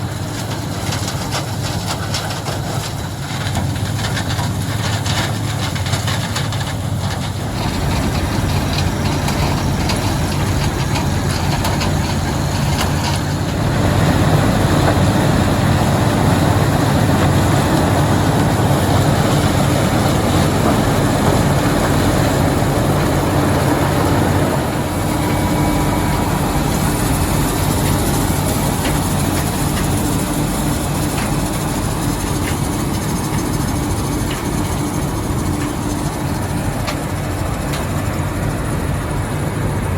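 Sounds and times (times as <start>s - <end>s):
farm machinery engine running: 0.0s - 39.9s.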